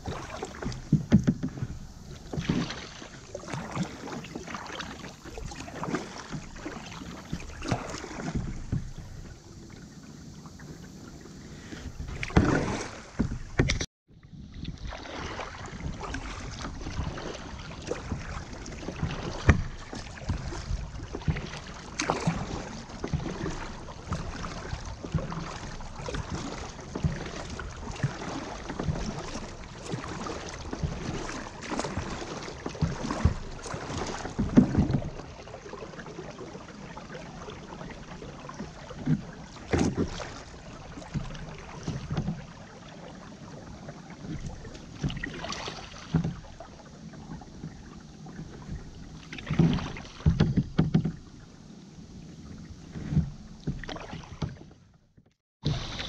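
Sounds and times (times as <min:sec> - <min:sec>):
paddle knocks: 0:00.0 - 0:09.8, 0:11.6 - 0:13.9, 0:14.7 - 0:35.5, 0:38.6 - 0:42.6, 0:43.9 - 0:51.4, 0:52.8 - 0:56.0
paddle splashing in water: 0:00.0 - 0:56.0.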